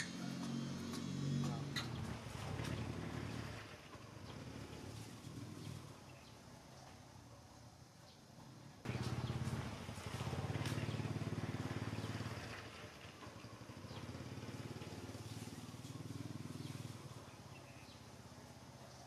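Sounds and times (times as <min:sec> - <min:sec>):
small engine running: 0:00.0 - 0:06.2, 0:08.4 - 0:18.8.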